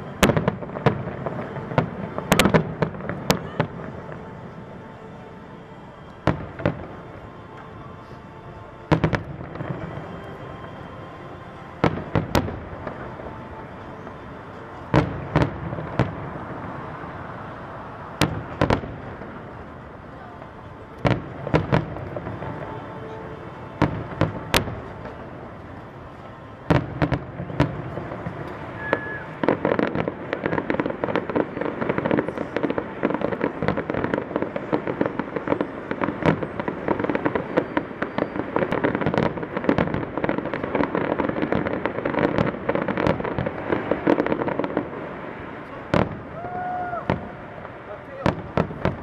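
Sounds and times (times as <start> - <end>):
crackling firework bursts and booms: 0.0 - 49.0.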